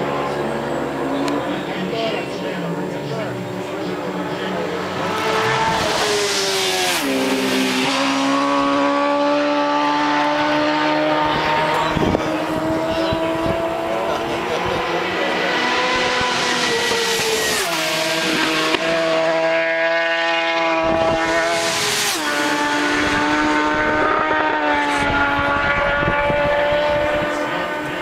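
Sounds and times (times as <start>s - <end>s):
motorcycle passing close: 0.0s - 28.0s
racing motorcycle engine high-revving: 0.0s - 28.0s.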